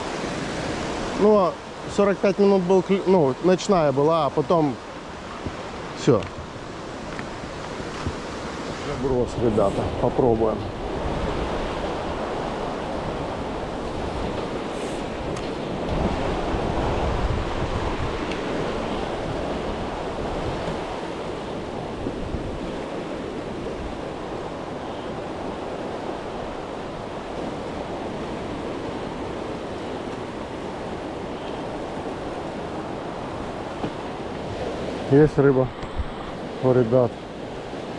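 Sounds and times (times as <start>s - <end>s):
water rushing: 0.0s - 37.9s
wind buffeting microphone: 4.9s - 37.9s.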